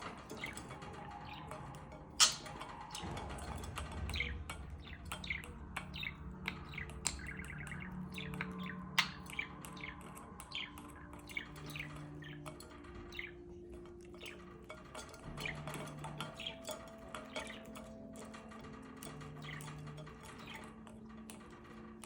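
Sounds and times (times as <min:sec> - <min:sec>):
budgerigar trill: 0:02.2 - 0:20.8.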